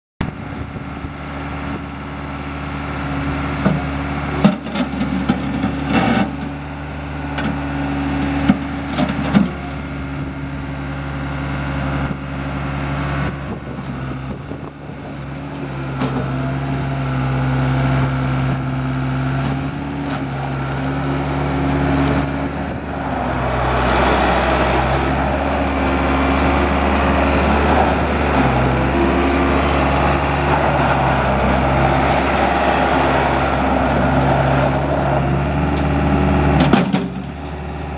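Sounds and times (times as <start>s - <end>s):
diesel engine running: 0.2s - 37.9s.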